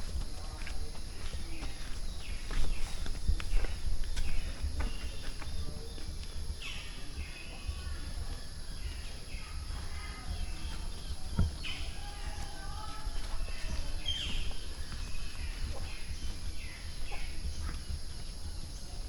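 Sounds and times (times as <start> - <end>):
footsteps: 0.0 - 18.9
faint distant voices: 0.0 - 19.0.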